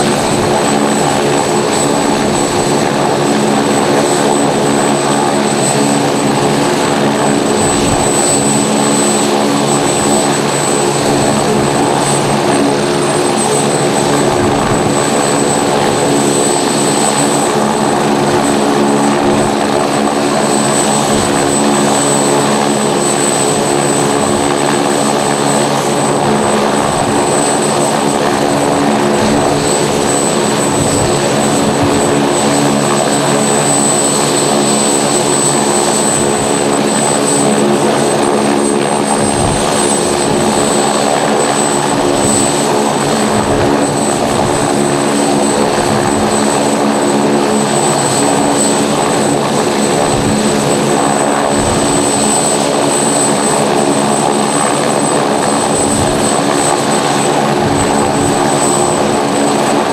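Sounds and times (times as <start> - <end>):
helicopter rotor drone: 0.0 - 59.9
high-pitched turbine whine: 0.0 - 59.9.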